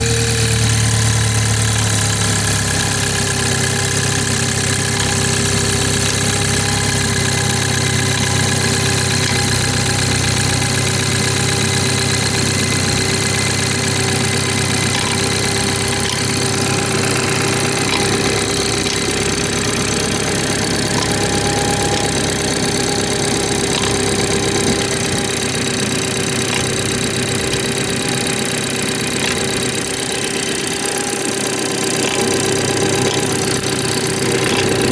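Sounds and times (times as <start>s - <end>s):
car engine idling: 0.0s - 34.9s
steady engine whine: 0.0s - 34.9s.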